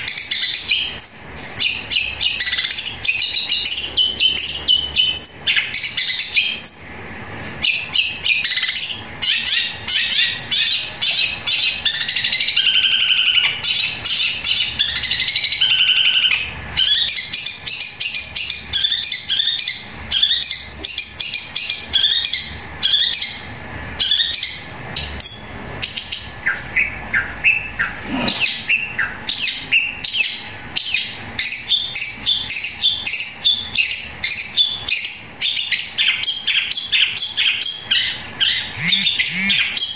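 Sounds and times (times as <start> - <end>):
bird singing rapid sharp chirps: 0.0 - 39.9.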